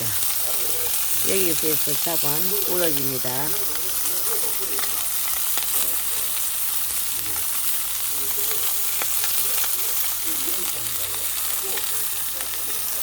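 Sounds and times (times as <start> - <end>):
fish sizzling: 0.0 - 13.0.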